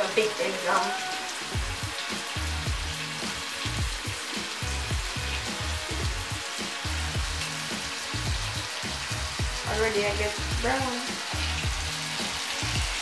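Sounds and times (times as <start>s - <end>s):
food sizzling in hot oil: 0.0s - 13.0s
background music with beat: 1.0s - 13.0s.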